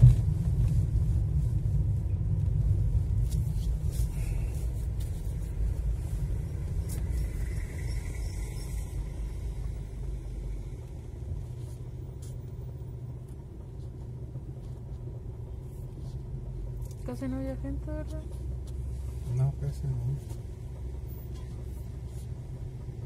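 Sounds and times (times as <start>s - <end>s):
car cabin engine and road rumble: 0.0s - 23.0s.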